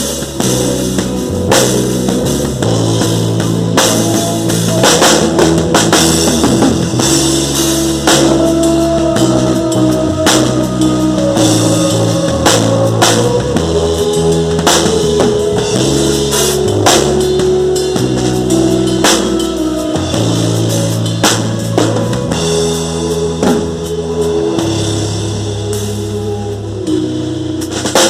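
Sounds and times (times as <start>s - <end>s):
drum kit: 0.0s - 28.0s
held chords and bass notes: 0.0s - 28.0s.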